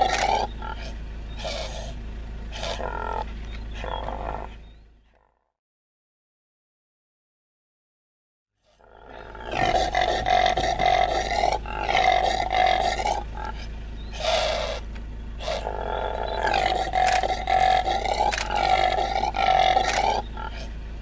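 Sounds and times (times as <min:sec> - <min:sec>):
impala grunting roar-calls: 0:00.0 - 0:05.4, 0:08.6 - 0:20.8.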